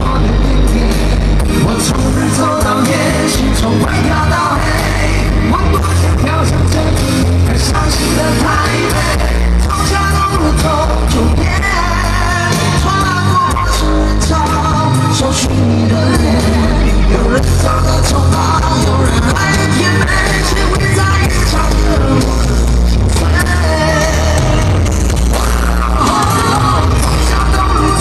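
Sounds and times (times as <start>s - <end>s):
loud distorted rock band: 0.0s - 28.0s.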